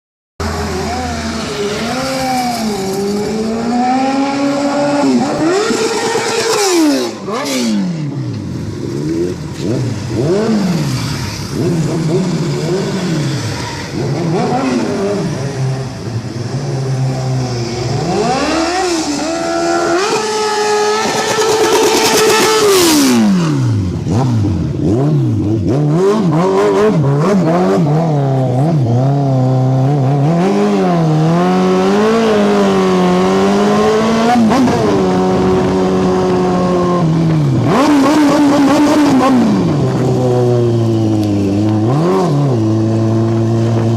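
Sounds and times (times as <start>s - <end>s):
motorcycle engine revving: 0.4s - 43.9s.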